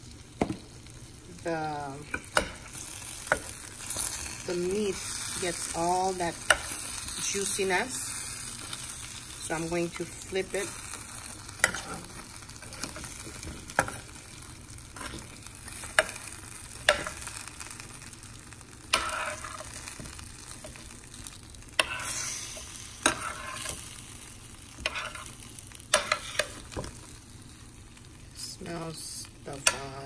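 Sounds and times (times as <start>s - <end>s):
pan juices sizzling: 0.0s - 30.0s.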